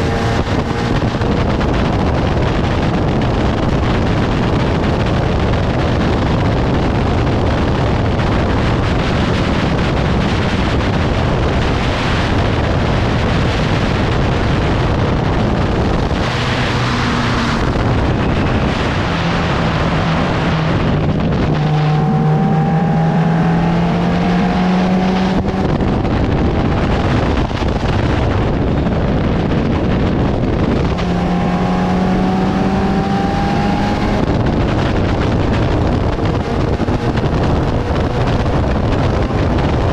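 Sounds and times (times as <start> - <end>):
heavy wind noise: 0.0 - 39.9
racing car engine: 0.0 - 39.9.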